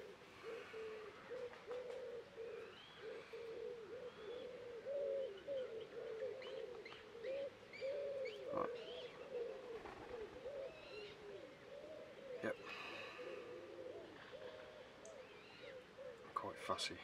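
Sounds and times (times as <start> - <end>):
low cooing bird calls: 0.0 - 17.0.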